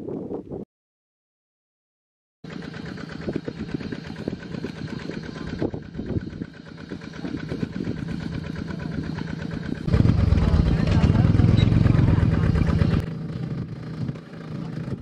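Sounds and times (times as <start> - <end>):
small engine running: 2.4 - 15.0.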